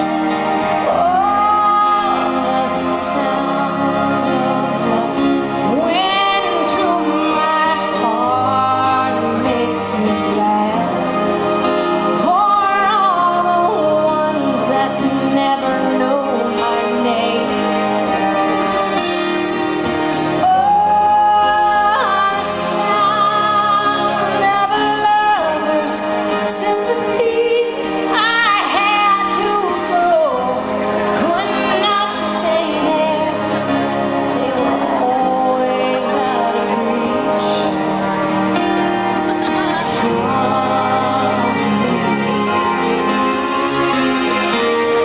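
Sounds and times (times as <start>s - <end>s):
acoustic guitar: 0.0s - 45.0s
woman singing a ballad: 0.8s - 18.9s, 20.4s - 38.7s, 39.6s - 43.7s.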